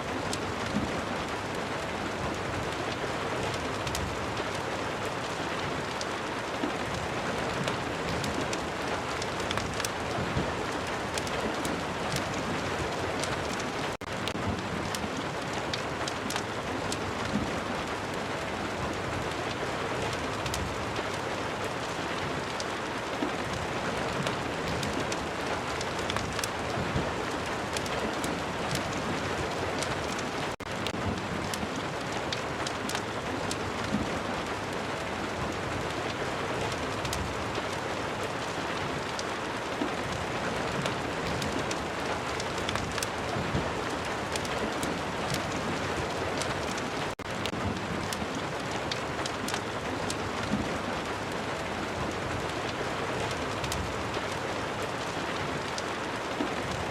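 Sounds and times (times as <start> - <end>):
fire crackling: 0.0 - 56.9
steady rain: 0.0 - 56.9.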